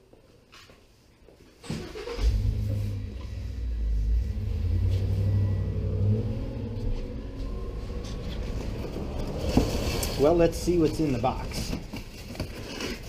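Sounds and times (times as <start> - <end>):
vehicle engine rumbling: 1.8 - 13.0.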